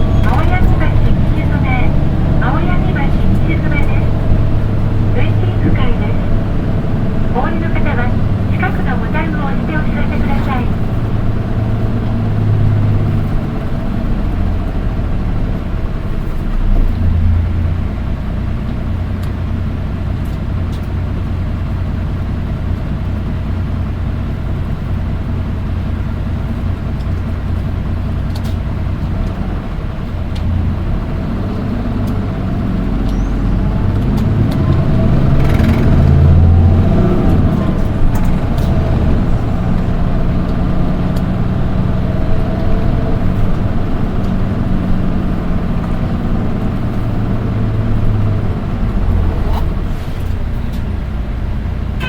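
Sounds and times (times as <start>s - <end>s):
bus diesel engine: 0.0s - 52.0s
road noise: 0.0s - 52.0s.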